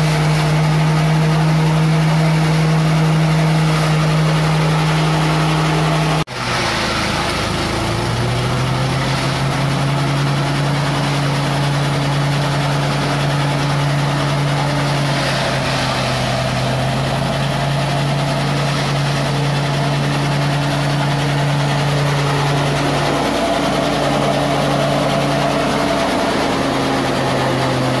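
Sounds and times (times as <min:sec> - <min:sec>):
machine chopping fodder: 0:00.0 - 0:28.0
small petrol engine running: 0:00.0 - 0:28.0.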